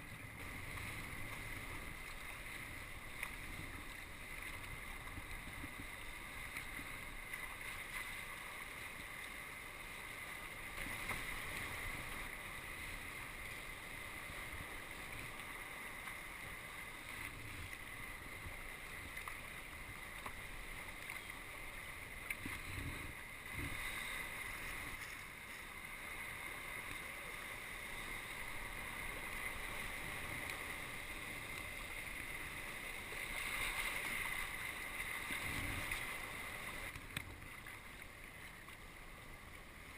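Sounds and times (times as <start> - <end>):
water washing along kayak hull: 0.0 - 39.9.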